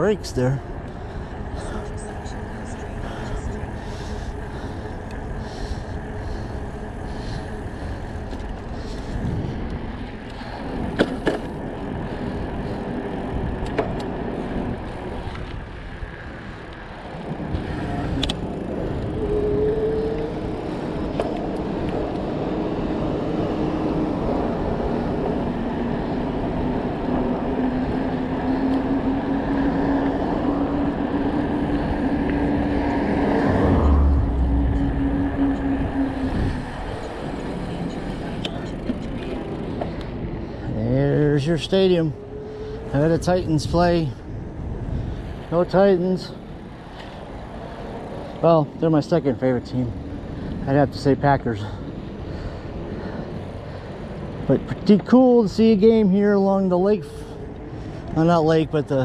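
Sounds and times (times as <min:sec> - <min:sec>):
wind rushing over microphone: 0:00.0 - 0:16.4, 0:17.0 - 0:54.8
steady droning tone: 0:00.0 - 0:59.0
tyres rolling on pavement: 0:00.0 - 0:59.0.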